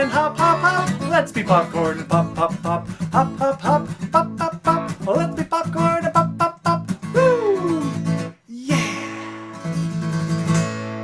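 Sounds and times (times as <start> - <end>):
man singing: 0.0 - 9.5
acoustic guitar strumming: 0.0 - 11.0.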